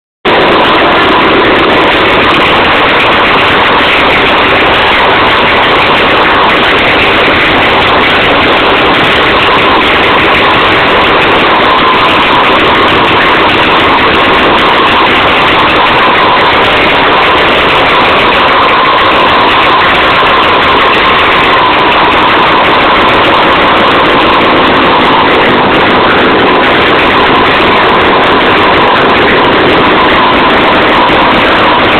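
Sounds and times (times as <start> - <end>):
engine running loudly: 0.3 - 31.9.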